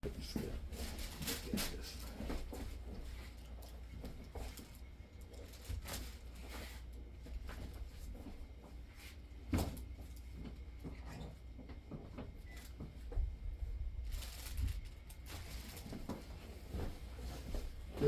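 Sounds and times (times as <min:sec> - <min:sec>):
soft knocks and shuffles: 0:00.0 - 0:18.0
steady low hum: 0:00.0 - 0:18.0.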